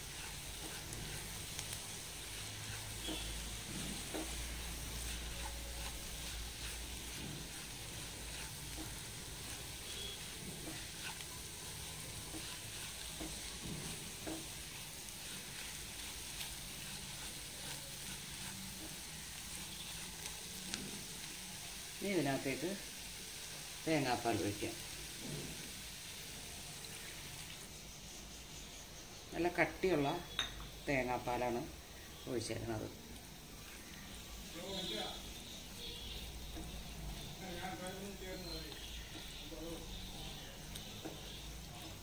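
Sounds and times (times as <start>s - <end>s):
wooden spatula scraping a pan: 0.0s - 27.7s, 33.4s - 42.0s
masala sizzling in a pan: 0.0s - 42.0s.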